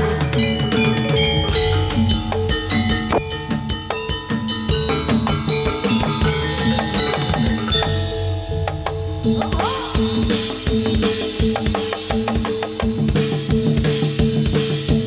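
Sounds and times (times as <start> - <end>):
loud busy drumming: 0.0 - 15.0.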